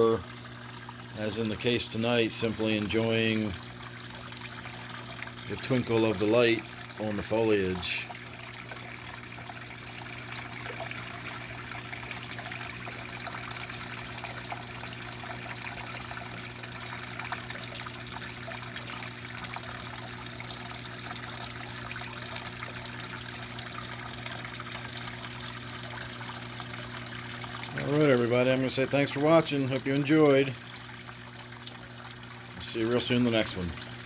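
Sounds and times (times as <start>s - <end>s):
water trickling and splashing: 0.0s - 34.0s.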